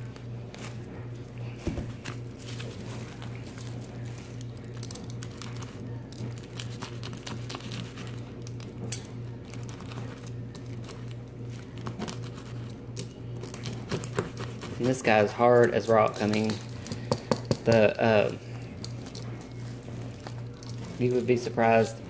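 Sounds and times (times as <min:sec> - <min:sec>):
paper and plastic crinkling: 0:00.0 - 0:17.1, 0:17.8 - 0:22.0.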